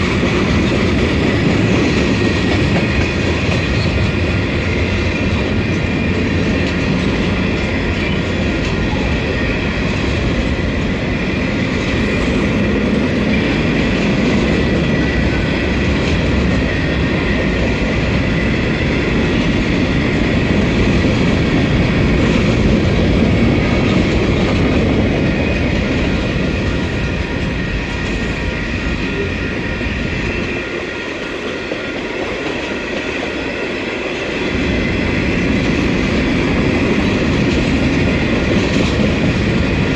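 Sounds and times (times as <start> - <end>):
train wheels rumbling and clattering: 0.0 - 39.9.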